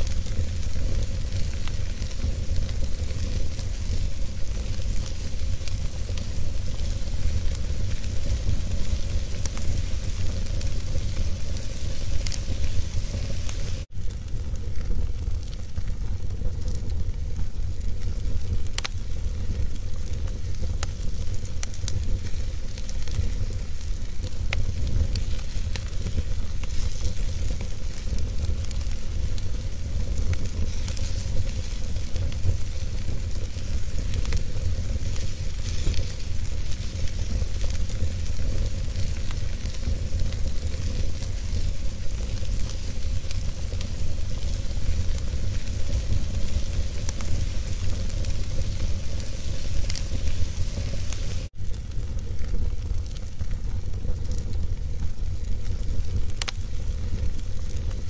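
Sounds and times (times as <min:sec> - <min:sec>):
fire flames hissing: 0:00.0 - 0:58.0
logs crackling and popping: 0:00.0 - 0:58.0.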